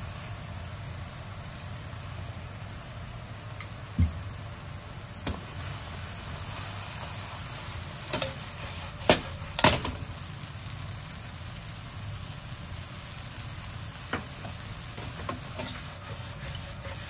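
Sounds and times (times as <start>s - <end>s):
mushrooms and egg sizzling in pan: 0.0s - 17.0s.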